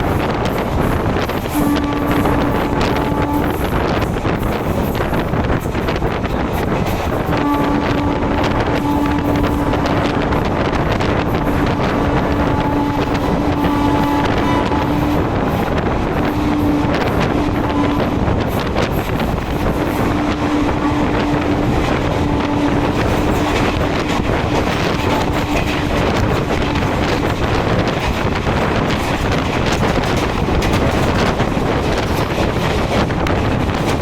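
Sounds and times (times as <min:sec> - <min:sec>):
train wheels clattering on track: 0:00.0 - 0:34.0
wind rushing on microphone: 0:00.0 - 0:34.0.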